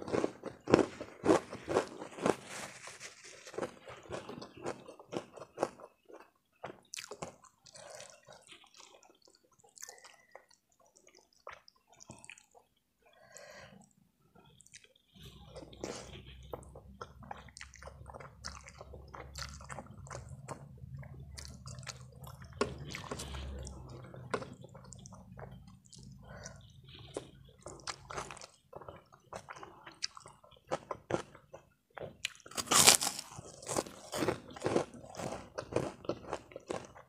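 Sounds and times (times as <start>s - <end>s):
wet chewing of noodles: 0.0s - 37.0s.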